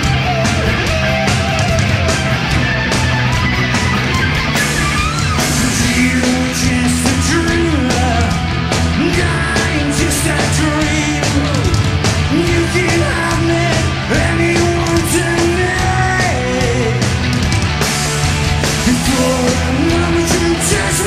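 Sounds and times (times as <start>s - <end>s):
bending lead guitar line: 0.0s - 21.0s
rock band playing: 0.0s - 21.0s.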